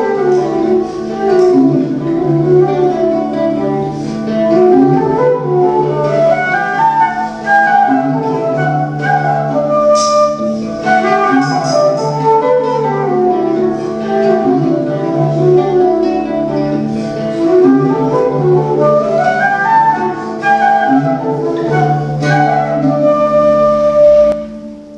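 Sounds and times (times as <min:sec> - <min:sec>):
flute melody: 0:00.0 - 0:24.9.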